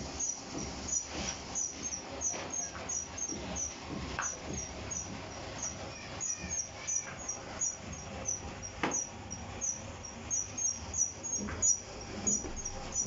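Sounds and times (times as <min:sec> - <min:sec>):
lamination machine humming: 0:00.0 - 0:13.0
rollers squeaking: 0:00.0 - 0:13.0.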